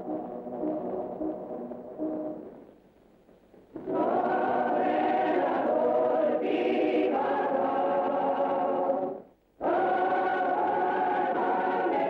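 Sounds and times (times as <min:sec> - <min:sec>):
choir singing held chords: 0:00.0 - 0:02.6, 0:03.8 - 0:12.0.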